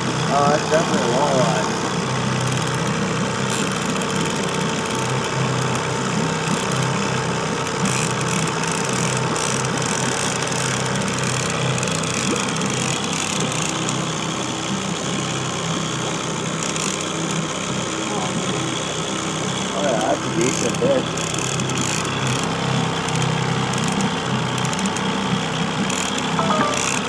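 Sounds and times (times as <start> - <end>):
outboard motor humming: 0.0 - 27.0.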